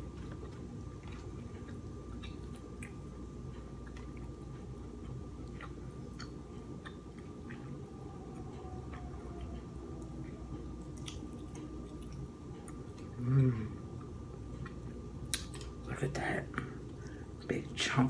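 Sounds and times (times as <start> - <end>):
chewing crab meat: 0.0 - 17.5.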